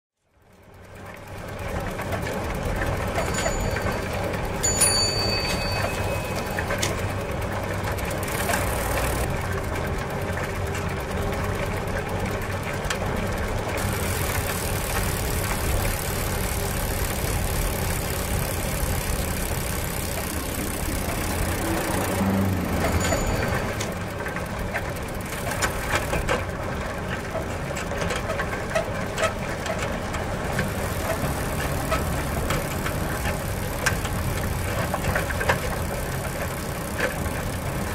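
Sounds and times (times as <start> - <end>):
bicycle chain and wheels running: 0.2 - 37.9
bicycle clicks and rattles: 0.4 - 37.9.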